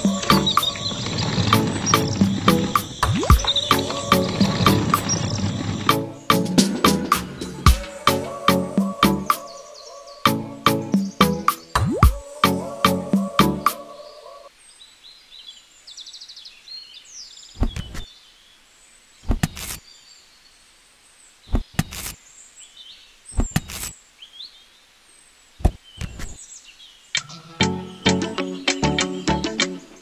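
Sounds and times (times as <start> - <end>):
faint bird chirps: 0.0 - 6.4, 7.4 - 30.0.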